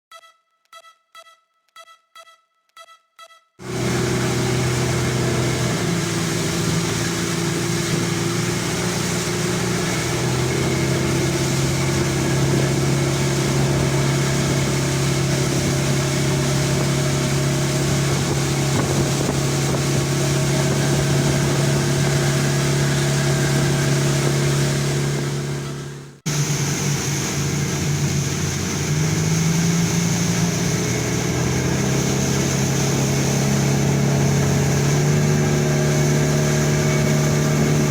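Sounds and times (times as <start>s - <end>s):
rushing water and wind: 3.6s - 37.9s
speedboat engine running: 3.6s - 37.9s.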